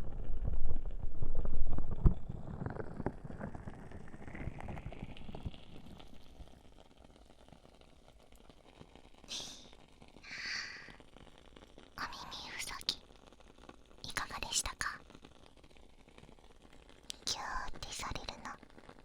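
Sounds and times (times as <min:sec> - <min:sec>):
faint crackling ticks: 0:02.0 - 0:19.0.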